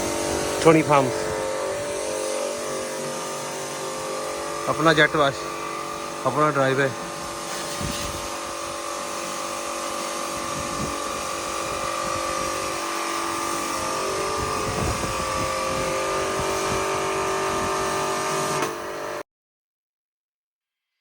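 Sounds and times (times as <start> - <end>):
water spray hissing: 0.0 - 18.4
pressure washer motor hum: 0.0 - 19.2.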